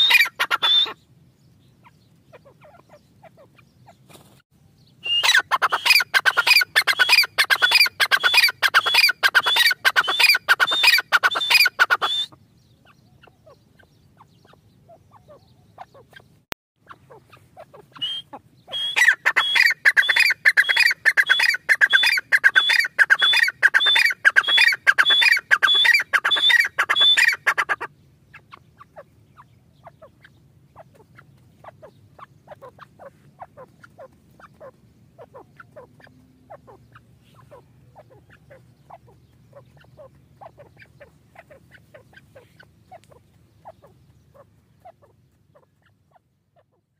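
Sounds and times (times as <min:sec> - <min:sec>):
bird shrill repeated calls: 0:00.0 - 0:01.0, 0:05.0 - 0:12.4, 0:13.2 - 0:46.9.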